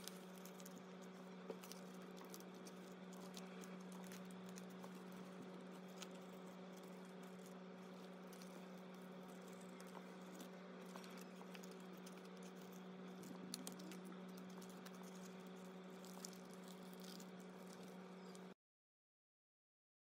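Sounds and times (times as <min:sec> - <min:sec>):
plastic sleeves crinkling and clicking: 0:00.0 - 0:18.5
steady low hum: 0:00.0 - 0:18.6.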